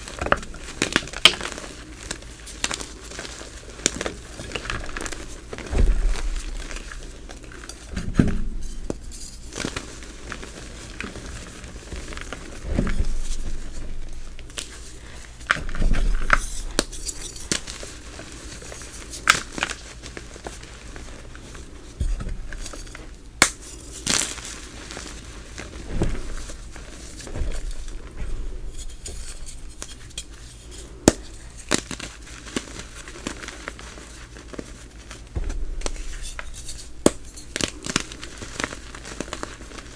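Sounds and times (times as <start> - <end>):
hands crushing chalk: 0.0 - 8.0, 8.8 - 28.1, 28.8 - 39.9.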